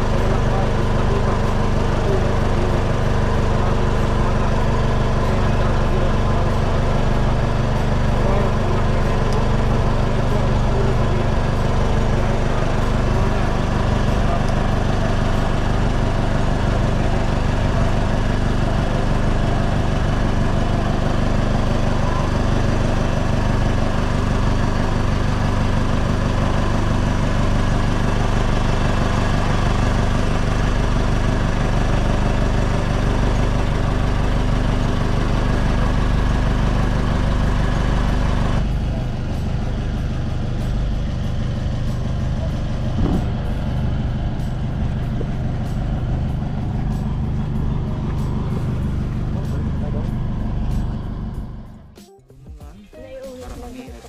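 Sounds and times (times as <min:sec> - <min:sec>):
boat engine idling: 0:00.0 - 0:54.0.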